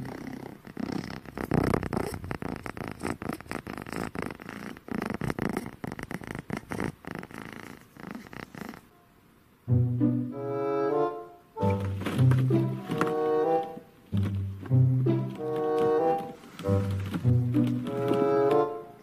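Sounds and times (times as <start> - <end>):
cat purring: 0.0 - 9.0, 11.6 - 19.0.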